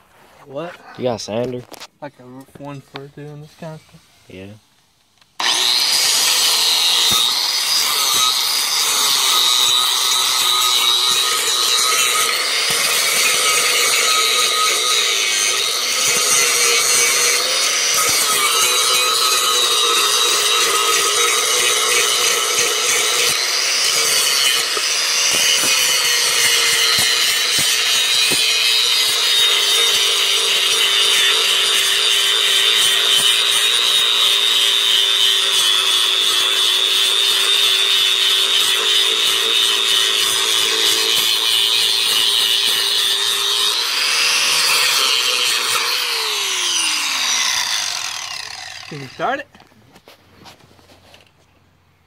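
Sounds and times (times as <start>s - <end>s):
angle grinder grinding metal: 5.4s - 49.6s.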